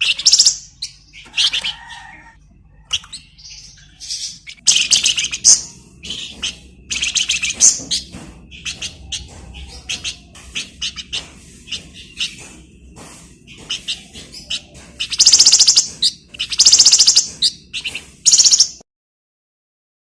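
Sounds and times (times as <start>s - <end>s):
songbird chirping and trilling: 0.0s - 18.8s.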